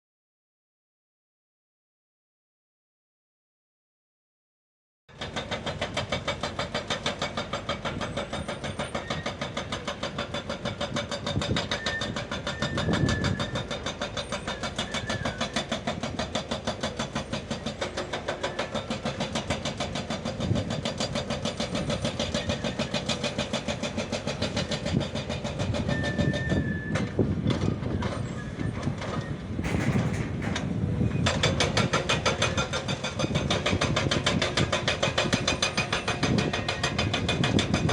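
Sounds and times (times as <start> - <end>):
excavator diesel engine chugging: 5.1 - 37.9.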